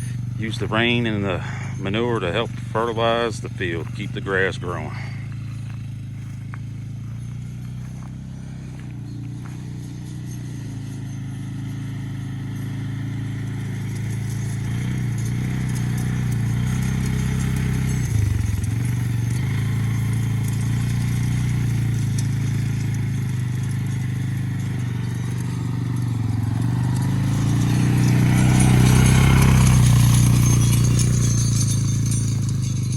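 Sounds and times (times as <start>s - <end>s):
vehicle engine running steadily: 0.0s - 32.9s.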